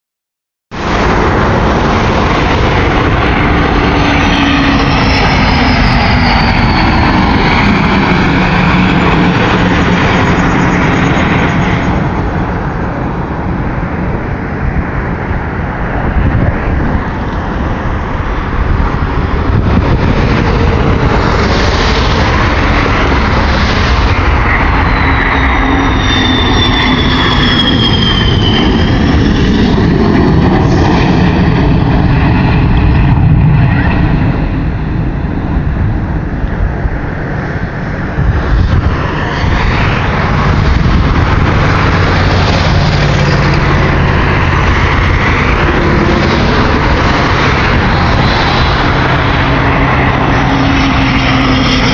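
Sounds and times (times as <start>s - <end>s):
fighter jet passing overhead: 0.7s - 51.9s
high turbine whine: 0.7s - 51.9s.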